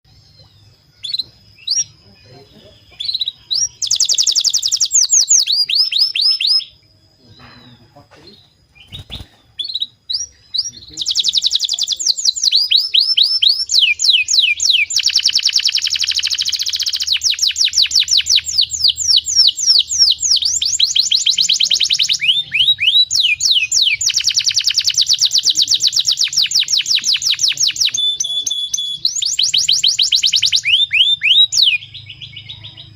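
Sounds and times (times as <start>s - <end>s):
canary singing trills: 0.0s - 32.9s.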